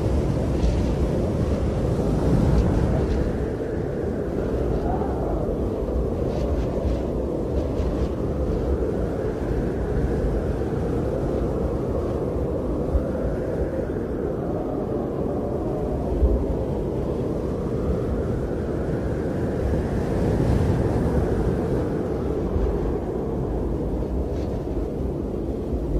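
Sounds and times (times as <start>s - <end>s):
blizzard wind buffeting microphone: 0.0s - 25.9s.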